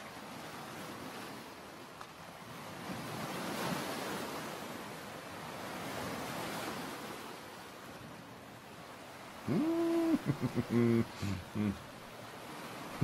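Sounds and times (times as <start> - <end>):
ocean surf on sandy beach: 0.0 - 13.0.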